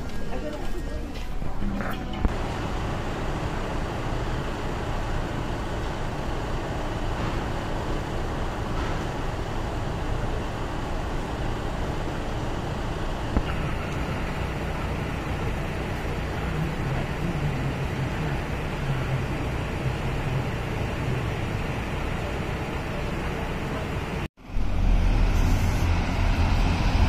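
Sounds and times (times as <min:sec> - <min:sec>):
road traffic rumble: 0:00.0 - 0:27.0
vehicle engines idling: 0:00.0 - 0:27.0.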